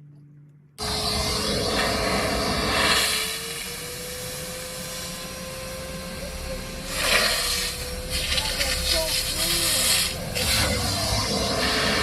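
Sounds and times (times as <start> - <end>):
shop vacuum motor whining: 0.8 - 12.0.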